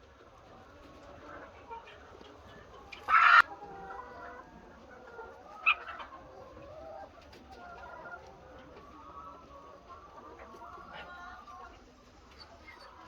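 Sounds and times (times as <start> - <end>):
hens clucking and calling: 0.0 - 13.0.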